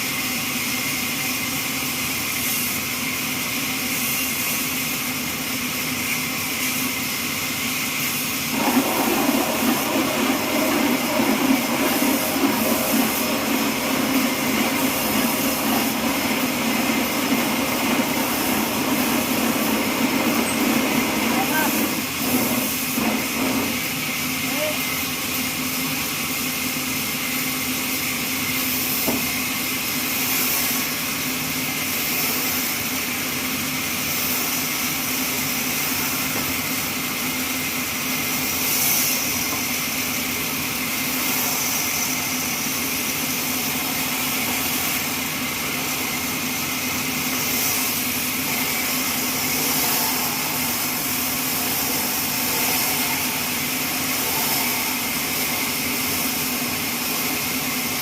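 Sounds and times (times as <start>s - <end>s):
bandsaw mill running: 6.0s - 27.3s, 27.9s - 58.0s.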